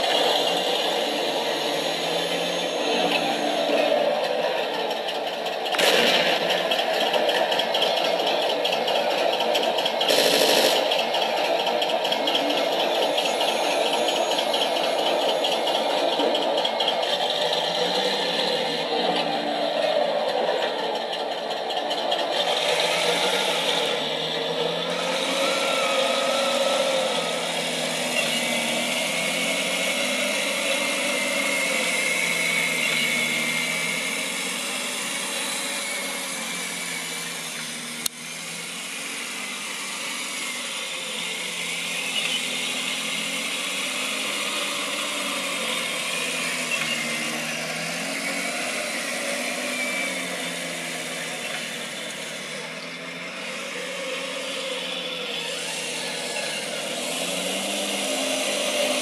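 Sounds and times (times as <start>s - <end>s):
simulated tank engine from speaker: 0.0s - 59.0s.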